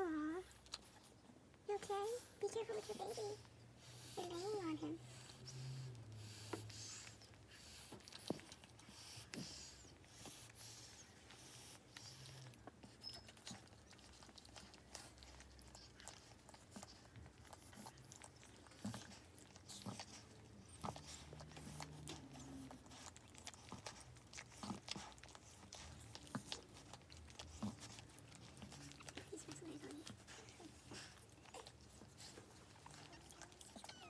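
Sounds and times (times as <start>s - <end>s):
dog licking and chewing: 0.1s - 34.0s.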